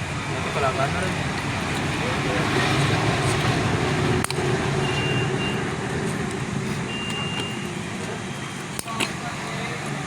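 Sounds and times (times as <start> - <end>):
road traffic with engine hum: 0.0 - 10.0.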